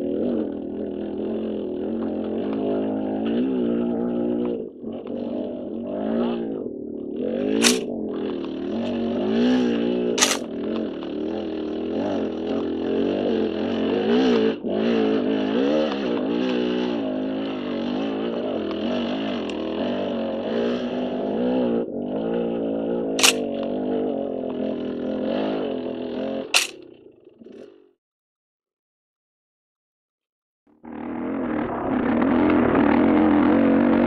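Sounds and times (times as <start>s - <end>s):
dirt bike engine revving: 0.0s - 27.8s, 30.8s - 34.0s.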